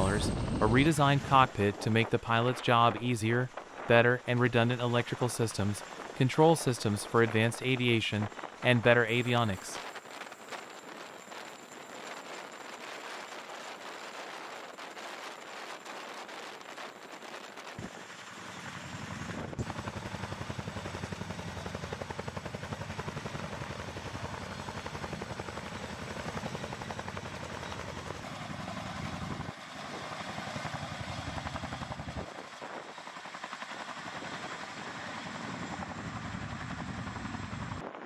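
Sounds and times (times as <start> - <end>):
helicopter rotor blades chopping: 0.0 - 38.0.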